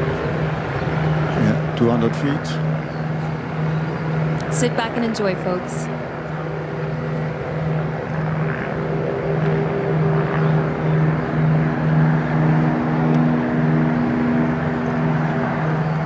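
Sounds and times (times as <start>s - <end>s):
airliner engines droning: 0.0s - 16.0s.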